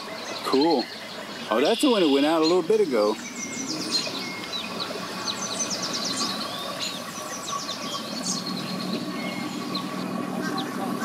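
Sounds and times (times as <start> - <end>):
birds chirping and trilling: 0.0 - 11.0
steady low hum: 2.1 - 11.0.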